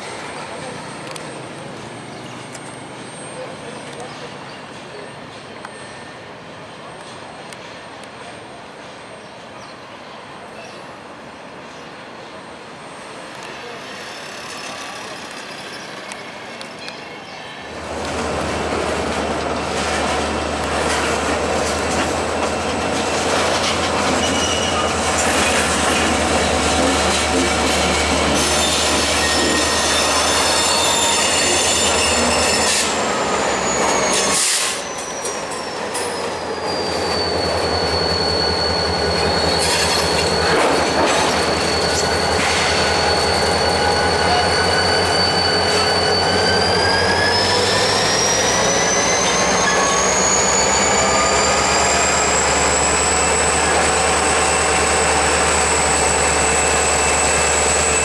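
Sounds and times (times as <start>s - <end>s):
low rumble of train cars: 0.0s - 58.0s
train wheels squealing on rails: 0.0s - 58.0s.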